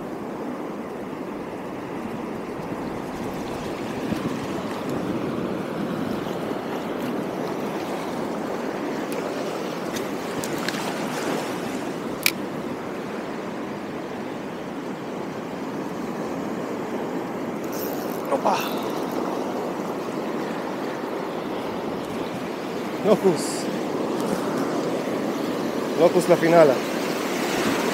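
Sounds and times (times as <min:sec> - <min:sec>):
sea surf washing around legs: 0:00.0 - 0:27.9.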